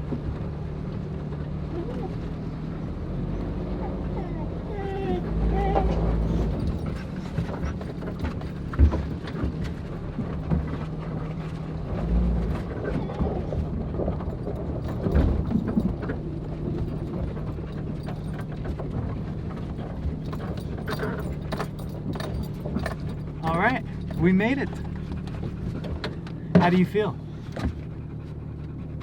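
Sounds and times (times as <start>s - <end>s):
car engine running: 0.0s - 29.0s
suspension knocks and thumps: 5.2s - 29.0s.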